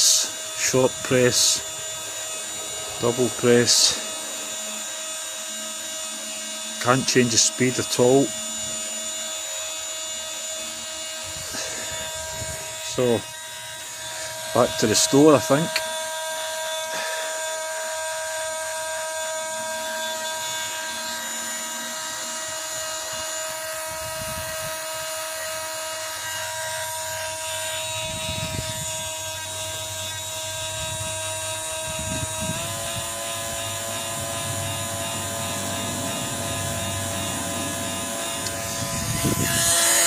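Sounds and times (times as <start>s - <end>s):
small motor whining: 0.0s - 40.0s.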